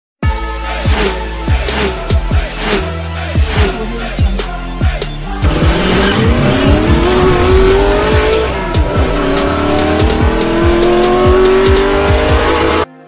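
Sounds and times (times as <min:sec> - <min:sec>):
music with heavy beat: 0:00.2 - 0:12.9
car engine accelerating: 0:00.9 - 0:04.5, 0:05.1 - 0:12.9.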